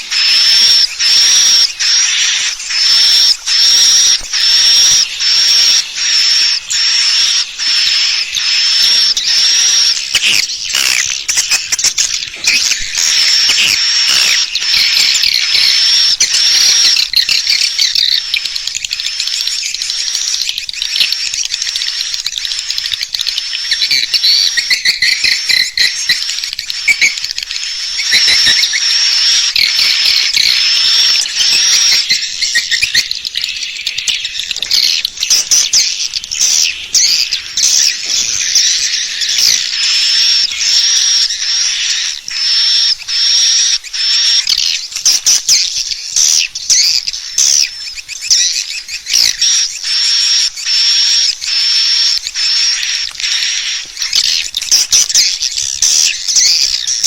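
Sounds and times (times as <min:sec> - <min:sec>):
swiftlet chirps and twitters: 0:00.0 - 0:57.0.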